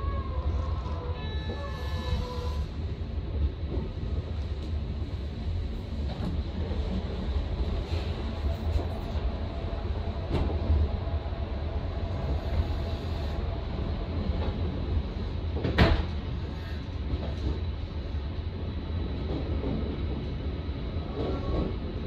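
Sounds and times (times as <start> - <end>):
train low rumble: 0.0 - 22.0.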